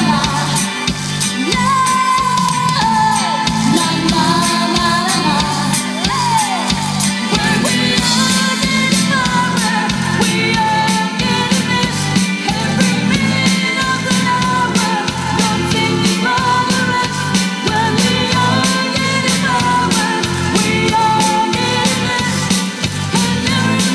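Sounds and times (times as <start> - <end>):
drum kit beat: 0.0 - 23.9
electric guitar: 0.0 - 23.9
keyboards: 0.0 - 23.9
woman singing: 0.0 - 23.9.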